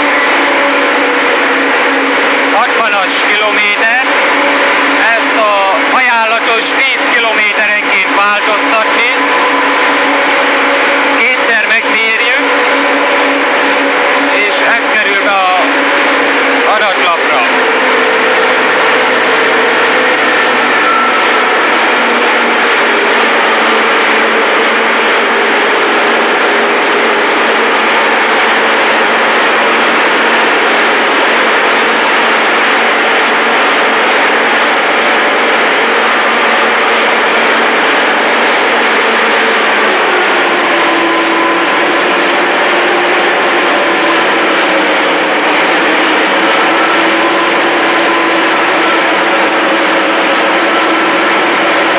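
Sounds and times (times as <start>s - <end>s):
diesel engine droning: 0.0s - 51.9s.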